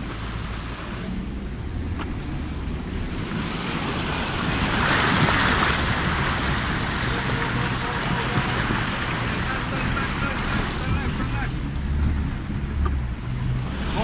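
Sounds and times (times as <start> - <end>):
engine low hum: 0.0 - 14.0
river water rushing and splashing: 0.0 - 14.0.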